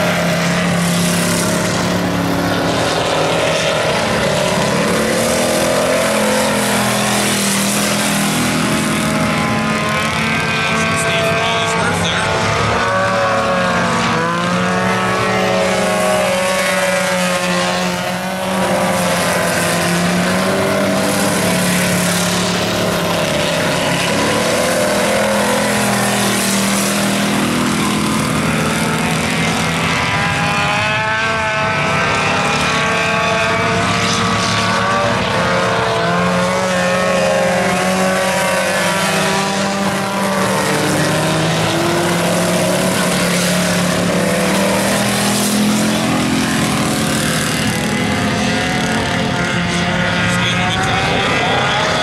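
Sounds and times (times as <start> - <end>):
stock car engines racing: 0.0 - 52.0.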